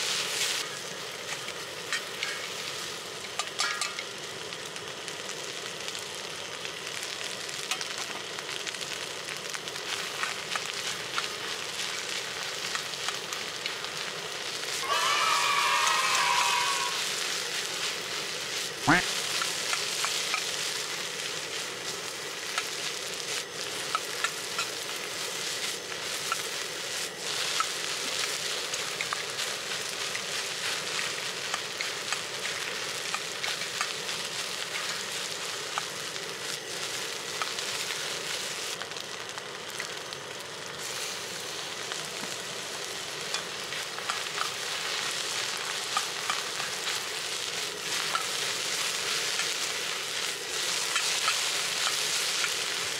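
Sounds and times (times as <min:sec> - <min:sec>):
rice sizzling in a wok: 0:00.0 - 0:52.9.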